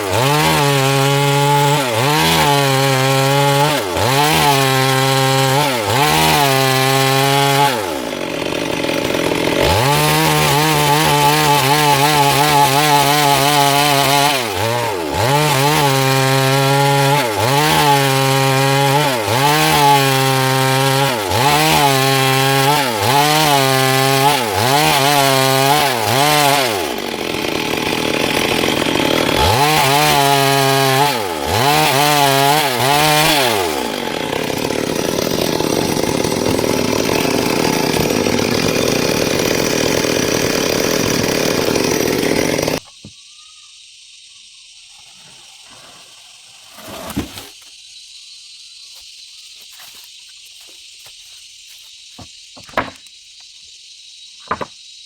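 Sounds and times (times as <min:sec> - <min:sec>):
chainsaw cutting wood: 0:00.0 - 0:43.1, 0:44.9 - 0:47.7, 0:49.7 - 0:53.1, 0:54.4 - 0:54.8.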